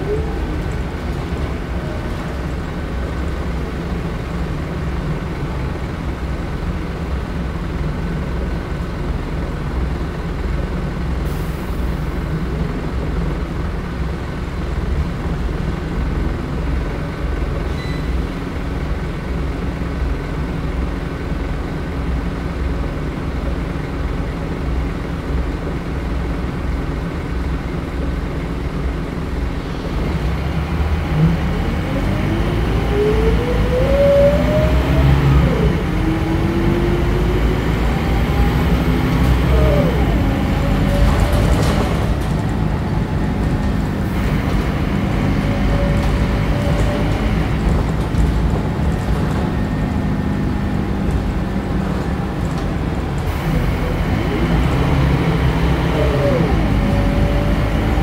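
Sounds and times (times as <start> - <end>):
diesel bus engine running: 0.0 - 58.0.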